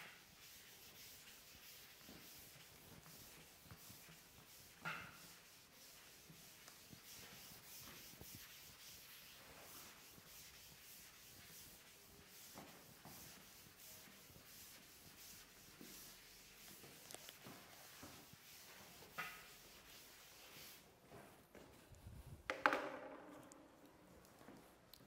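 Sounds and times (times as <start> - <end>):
duster rubbing a blackboard: 0.2 - 20.8.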